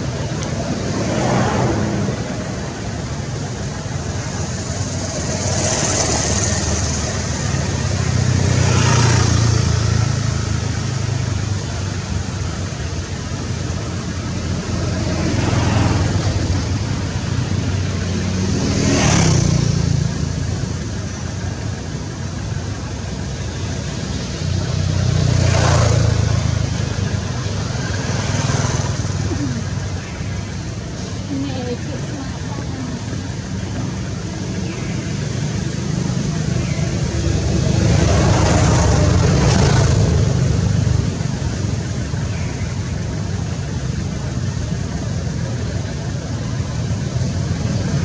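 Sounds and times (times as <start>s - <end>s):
vehicles passing: 0.0s - 48.0s.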